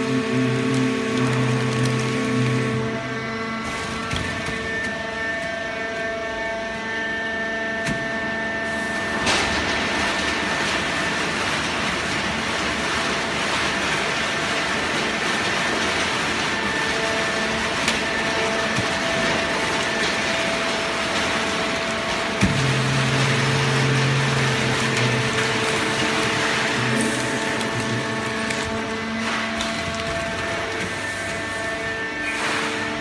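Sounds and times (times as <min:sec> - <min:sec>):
machine hum with whining tones: 0:00.0 - 0:33.0.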